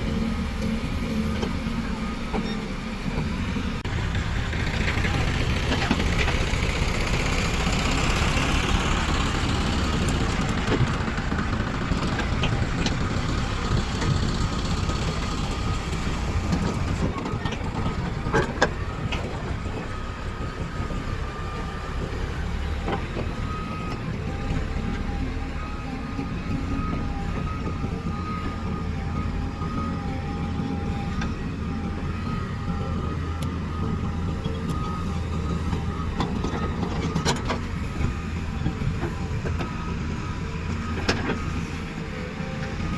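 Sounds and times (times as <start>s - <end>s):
diesel engines running: 0.0s - 42.9s
reversing alarm beeping: 4.6s - 42.9s.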